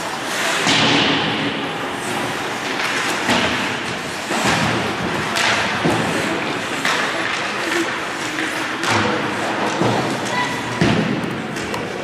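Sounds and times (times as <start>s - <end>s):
skates scraping on ice: 0.0s - 12.0s
dull thuds of sticks and puck: 0.5s - 12.0s.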